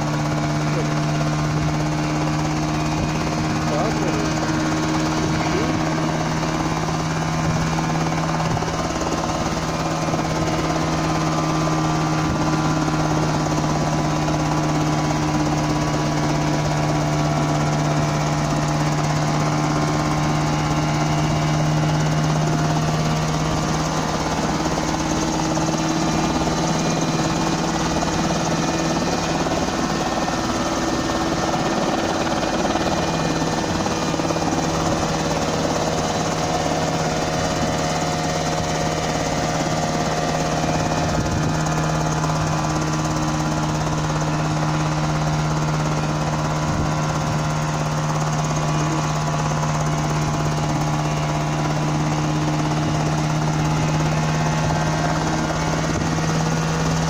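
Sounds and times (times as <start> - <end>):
model helicopter drone: 0.0 - 57.0.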